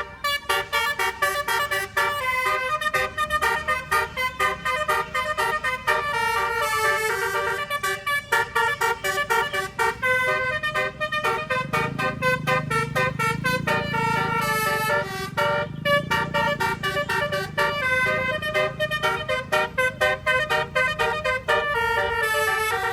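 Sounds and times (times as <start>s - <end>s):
low engine rumble: 0.0s - 22.9s
air horn playing quick tune: 0.5s - 22.9s.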